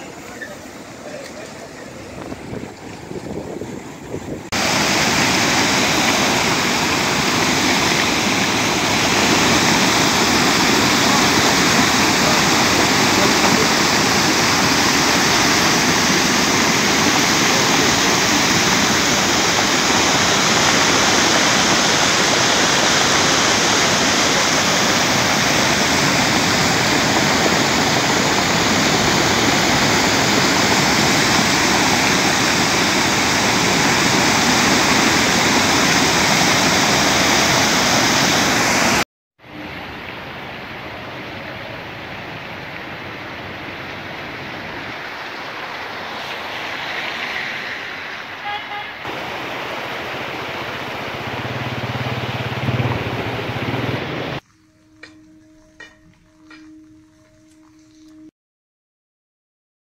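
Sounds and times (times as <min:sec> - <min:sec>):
floodwater running over a road: 0:00.0 - 0:54.4
floodwater rushing in a torrent: 0:00.0 - 0:54.4.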